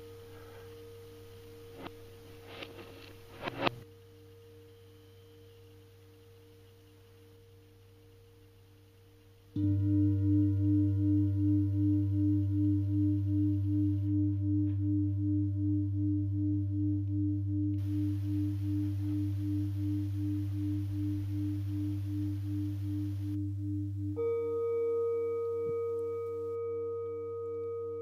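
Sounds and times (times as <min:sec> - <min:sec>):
singing bowl ringing: 0:00.0 - 0:02.5, 0:03.9 - 0:07.4, 0:09.6 - 0:28.0.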